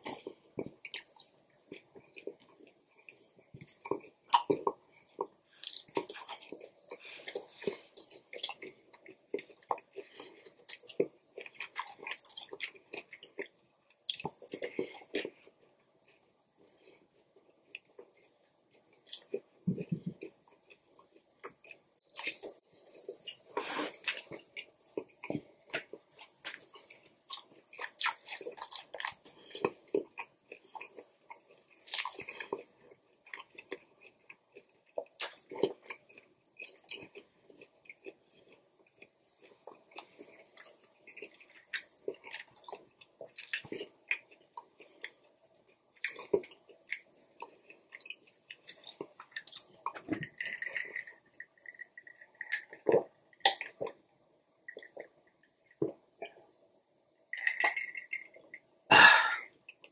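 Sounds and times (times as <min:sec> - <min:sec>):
wet chewing of food: 0:00.0 - 0:54.0, 0:54.6 - 0:56.6.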